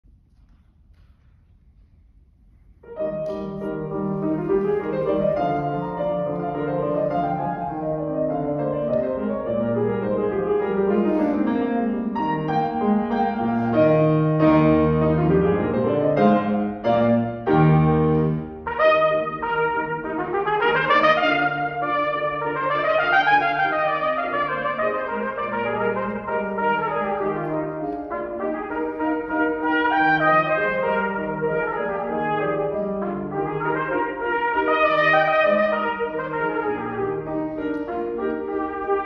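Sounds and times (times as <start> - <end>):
grand piano playing classical music: 2.8 - 39.0
trumpet playing: 2.9 - 39.0.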